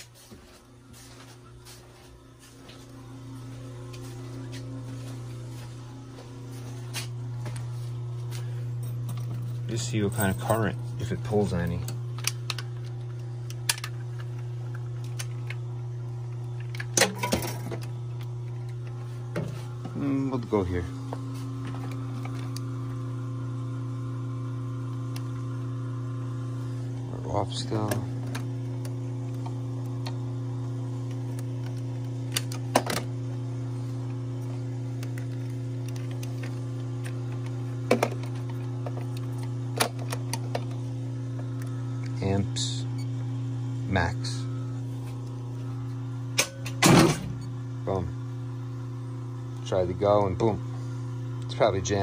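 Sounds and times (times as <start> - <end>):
transformer electrical hum: 0.0 - 52.0.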